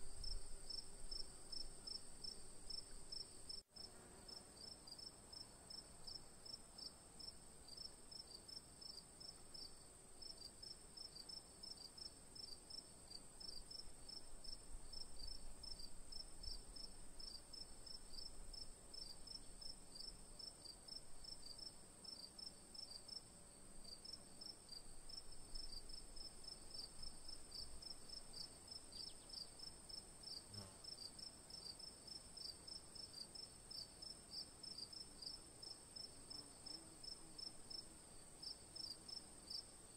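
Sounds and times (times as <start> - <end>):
crickets chirping: 0.0 - 5.5, 6.1 - 39.9.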